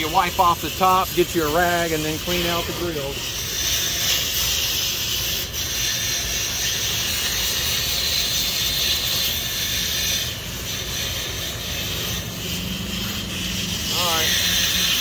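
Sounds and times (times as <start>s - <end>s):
hose spray hitting sheet metal: 0.0s - 15.0s.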